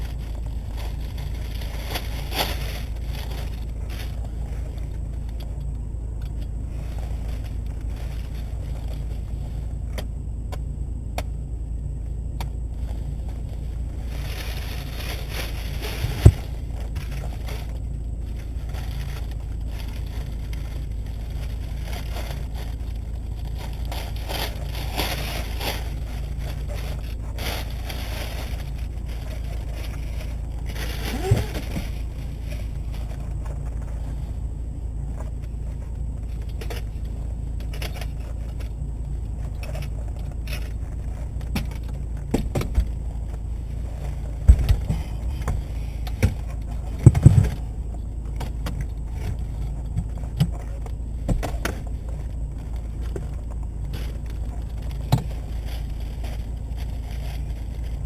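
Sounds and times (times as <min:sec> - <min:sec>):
plastic cover rustling: 0:00.0 - 0:09.6, 0:12.8 - 0:58.0
steady low hum: 0:00.0 - 0:58.0.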